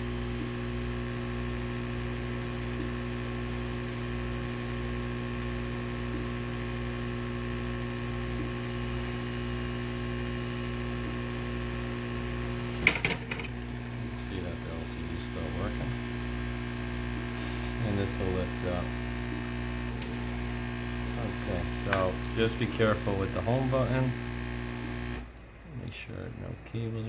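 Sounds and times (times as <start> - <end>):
heat gun humming: 0.0 - 26.9.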